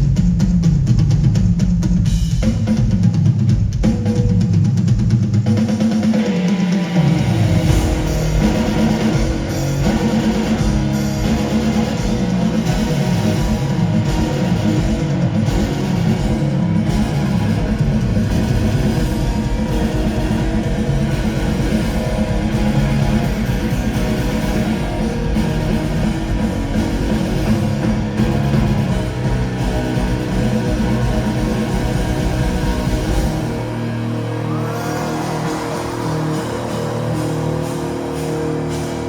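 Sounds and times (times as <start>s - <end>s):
electric guitar: 6.0s - 39.0s
live instrumental rock band: 6.0s - 39.0s.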